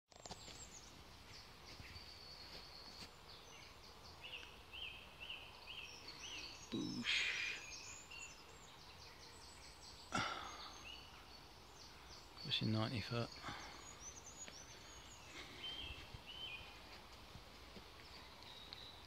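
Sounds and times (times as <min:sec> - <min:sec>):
birds singing: 0:00.2 - 0:19.0.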